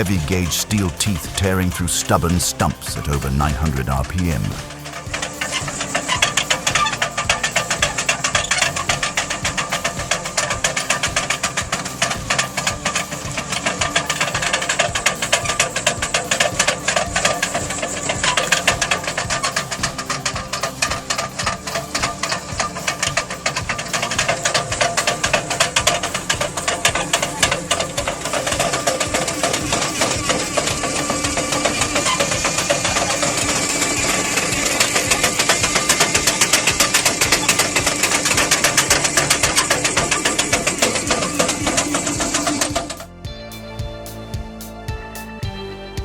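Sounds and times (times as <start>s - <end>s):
machinery clattering: 0.0s - 43.3s
background music: 0.0s - 46.0s.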